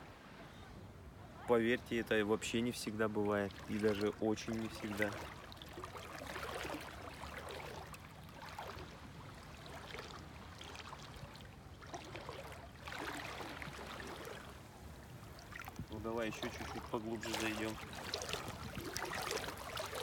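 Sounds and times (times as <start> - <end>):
water sloshing around wading legs: 2.4 - 20.0.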